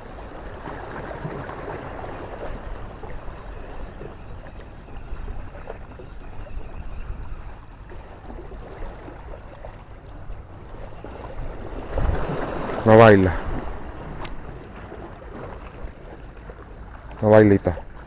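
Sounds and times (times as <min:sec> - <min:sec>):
sea water lapping: 0:00.0 - 0:18.0.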